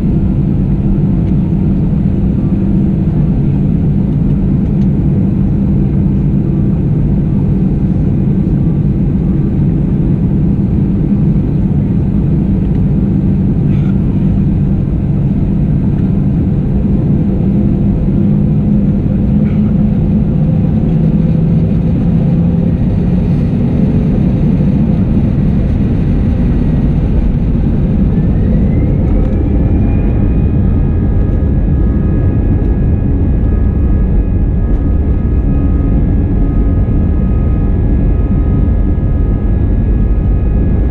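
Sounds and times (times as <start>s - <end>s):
jet engine whine spooling up: 0.0s - 40.9s
low rumble of jet engines: 0.0s - 40.9s.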